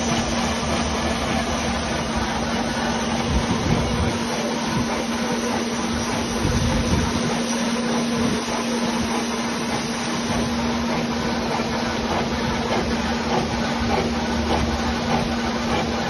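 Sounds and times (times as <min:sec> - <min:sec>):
hiss and chatter of cutting: 0:00.0 - 0:16.0.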